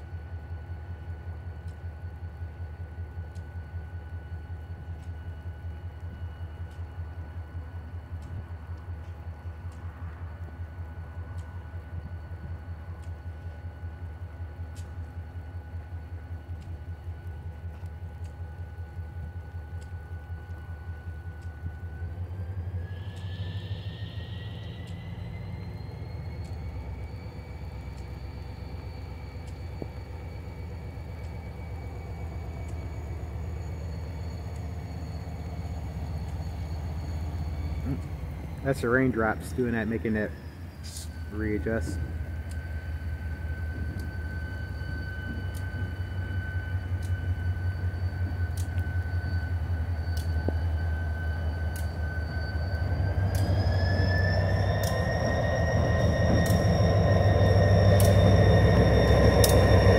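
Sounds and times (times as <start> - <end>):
distant diesel locomotive rumble: 0.0 - 59.9
high whine: 0.0 - 59.9
wheel and rail noise: 0.0 - 59.9.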